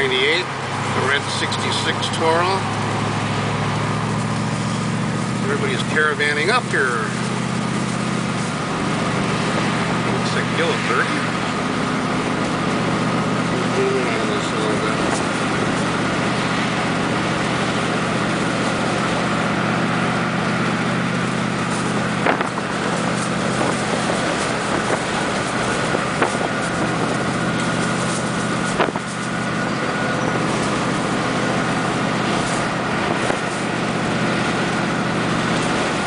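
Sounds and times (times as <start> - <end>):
car engine drone: 0.0 - 36.0
road noise: 0.0 - 36.0.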